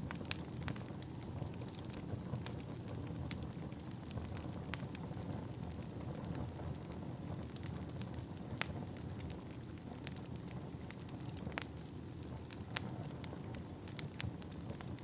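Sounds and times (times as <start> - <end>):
burning wood crackling and popping: 0.0 - 15.0
fire flames rumbling: 0.0 - 15.0.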